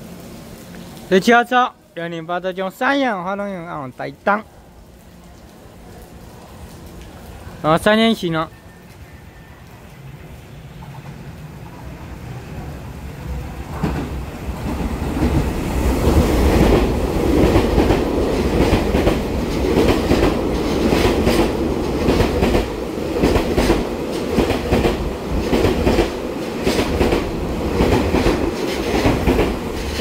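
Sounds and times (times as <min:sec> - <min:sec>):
train rumble: 0:04.5 - 0:30.0.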